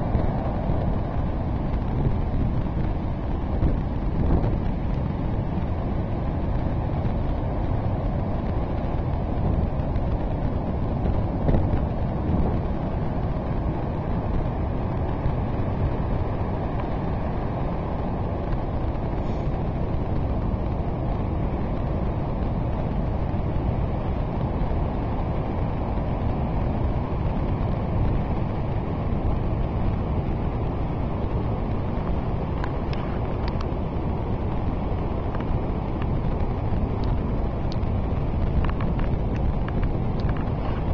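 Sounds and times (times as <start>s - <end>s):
heavy surf roaring: 0.0s - 40.9s
wind buffeting microphone: 0.0s - 40.9s.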